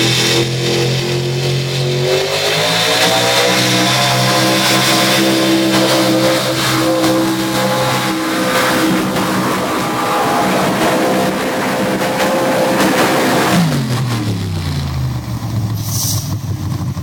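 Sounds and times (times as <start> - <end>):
pickup truck engine revving: 0.0 - 17.0.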